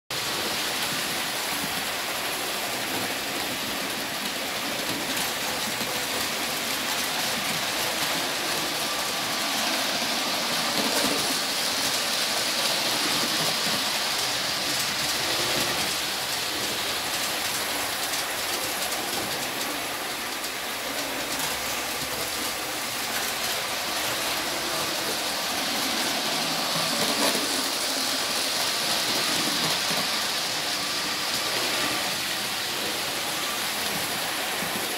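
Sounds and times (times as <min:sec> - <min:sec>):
model trains whirring and rattling: 0:00.1 - 0:34.9.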